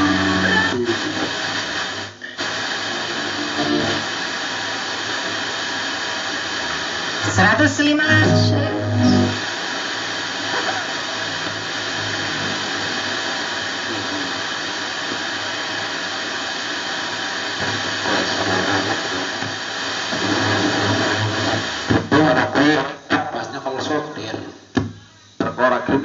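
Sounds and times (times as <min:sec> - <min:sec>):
faint radio programme sound: 0:00.0 - 0:09.5, 0:10.4 - 0:15.3, 0:17.6 - 0:26.0
radio static hiss: 0:00.0 - 0:26.0.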